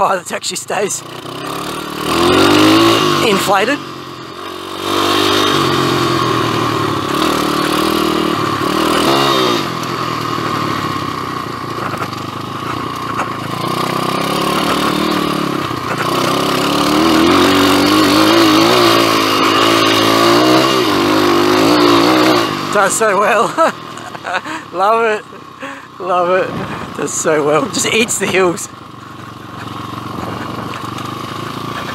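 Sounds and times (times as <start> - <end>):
motorbike engine revving: 0.0 - 31.9.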